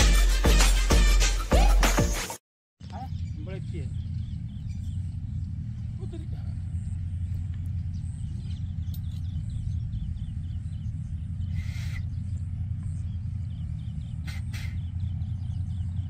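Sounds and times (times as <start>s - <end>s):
faint bird calls: 2.8s - 16.0s
steady low rumble: 2.9s - 16.0s.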